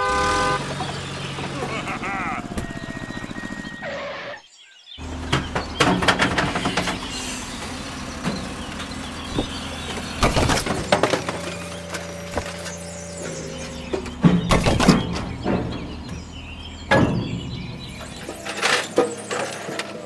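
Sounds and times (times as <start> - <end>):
low engine hum: 0.0 - 3.9, 5.0 - 20.0.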